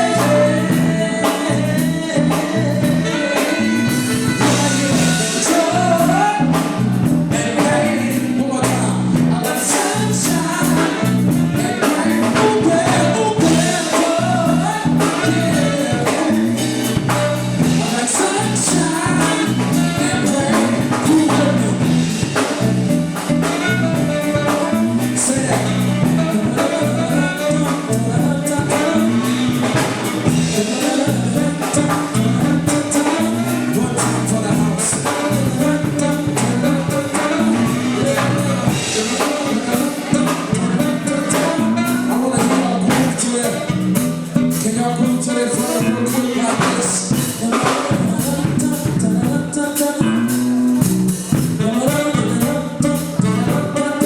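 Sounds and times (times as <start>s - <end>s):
bass line: 0.0s - 54.0s
drum kit: 0.0s - 54.0s
person singing: 0.0s - 54.0s.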